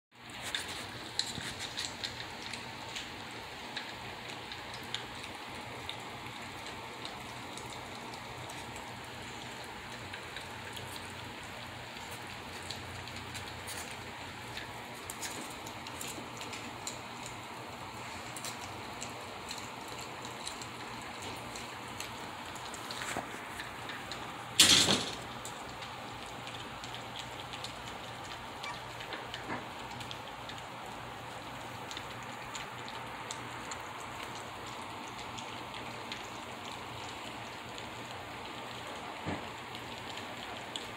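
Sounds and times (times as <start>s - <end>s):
puppies crunching kibble: 0.3s - 38.6s.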